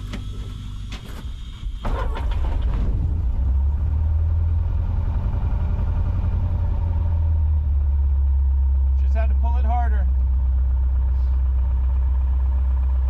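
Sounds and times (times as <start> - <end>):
aircraft engine starting and idling: 0.0 - 13.0.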